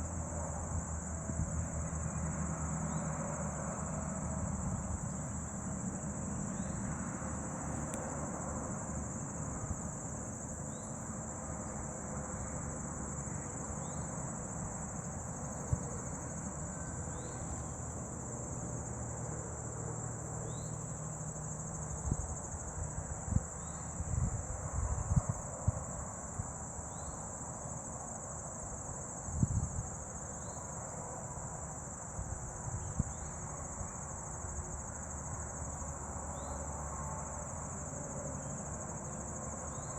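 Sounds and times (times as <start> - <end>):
insect chorus chirping: 0.0 - 39.9.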